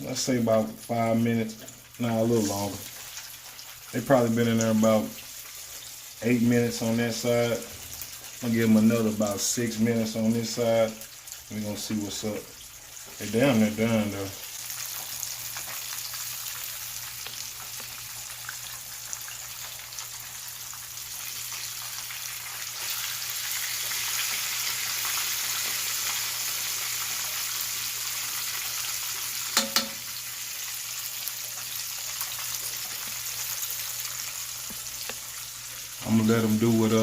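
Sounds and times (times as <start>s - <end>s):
fish frying in grease: 0.0s - 37.0s.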